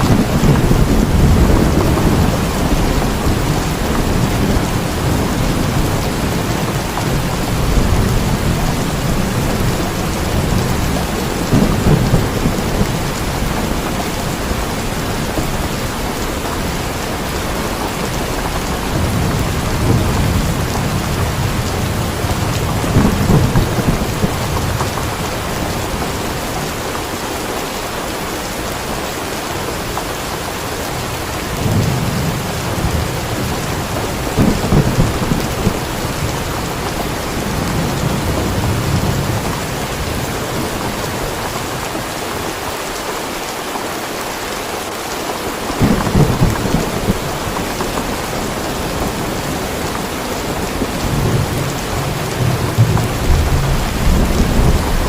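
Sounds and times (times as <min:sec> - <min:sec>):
low thunder rolling: 0:00.0 - 0:26.9, 0:31.2 - 0:41.8, 0:45.8 - 0:55.0
heavy rain: 0:00.0 - 0:55.0.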